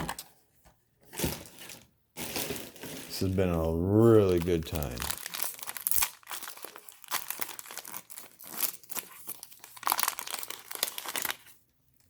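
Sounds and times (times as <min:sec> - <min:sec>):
wrapper being torn and crinkled: 0:01.2 - 0:12.0.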